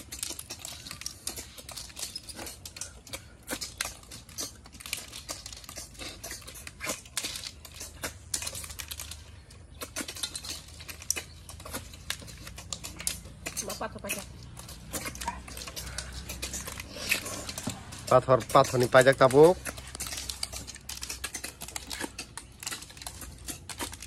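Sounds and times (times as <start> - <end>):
snail shells clicking on plates: 0.0 - 24.0.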